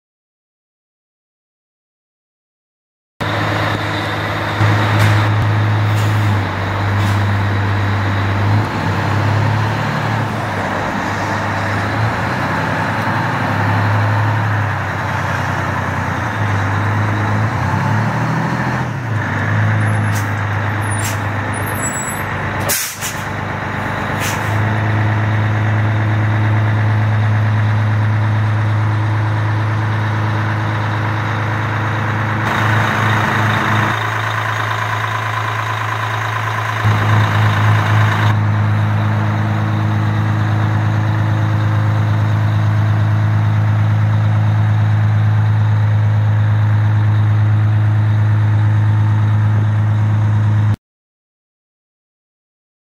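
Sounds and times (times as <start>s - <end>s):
fire truck diesel engine running: 3.2s - 50.8s.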